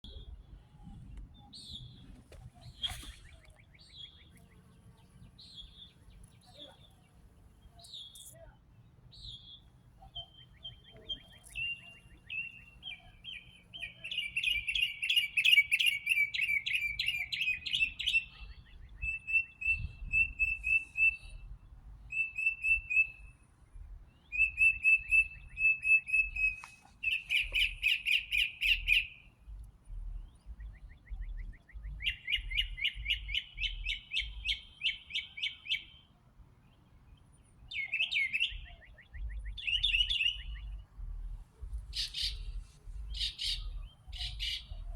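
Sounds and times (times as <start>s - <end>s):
songbirds trilling and chirping: 0.0s - 44.9s.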